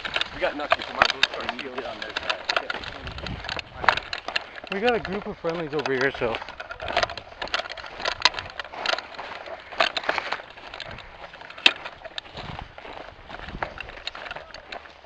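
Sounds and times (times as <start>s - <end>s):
footsteps crunching through dry twigs: 0.0s - 15.0s.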